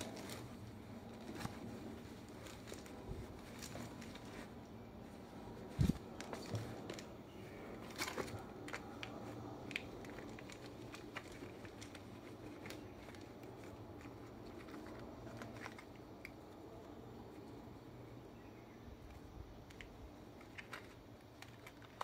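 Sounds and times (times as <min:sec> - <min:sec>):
soft rustling of bag: 0:00.0 - 0:17.6.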